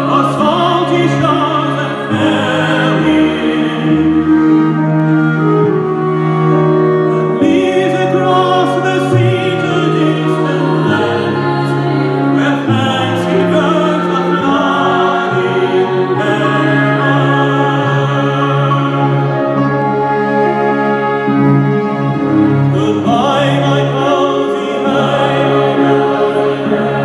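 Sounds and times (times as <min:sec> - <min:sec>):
voices singing: 0:00.0 - 0:20.4, 0:22.2 - 0:27.0
symphony orchestra playing: 0:00.0 - 0:27.0.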